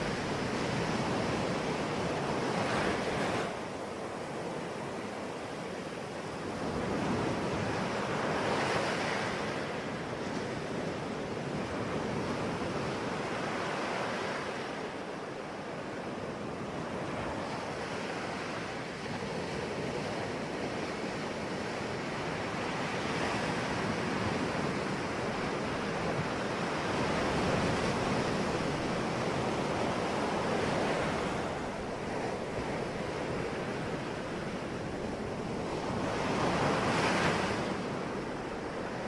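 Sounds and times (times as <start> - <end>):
sea waves breaking on shore: 0.0 - 39.0.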